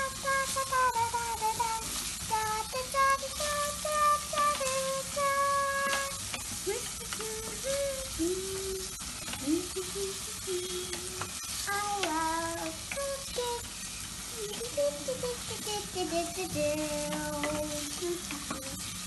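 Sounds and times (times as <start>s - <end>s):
vegetables sizzling: 0.0s - 19.0s.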